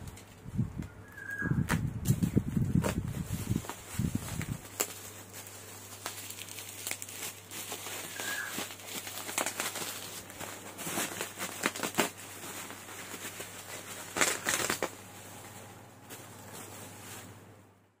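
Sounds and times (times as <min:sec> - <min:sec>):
bubble wrap crinkling: 0:01.1 - 0:17.5.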